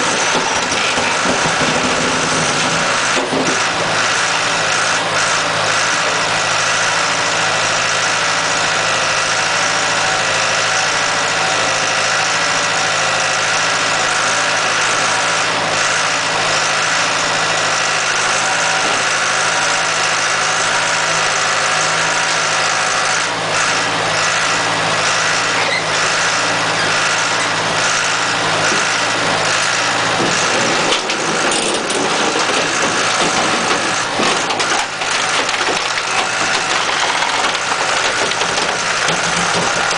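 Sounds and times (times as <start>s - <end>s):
baler engine and hydraulics running: 0.0s - 39.9s.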